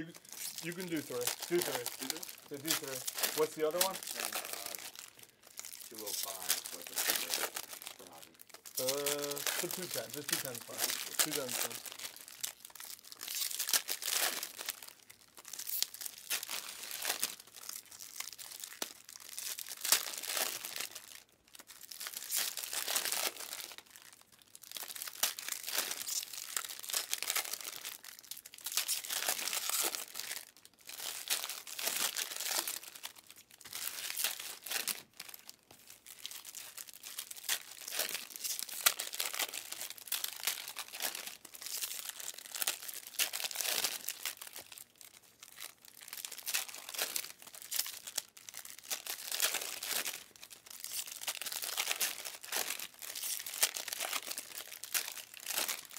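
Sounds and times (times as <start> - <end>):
plastic wrappers tearing and crinkling: 0.0 - 55.9.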